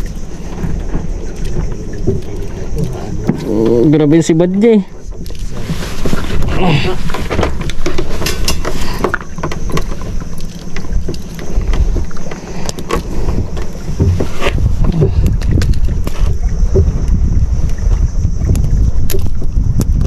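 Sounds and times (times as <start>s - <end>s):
boat engine rumbling: 0.0s - 20.0s
wind on microphone: 0.0s - 20.0s.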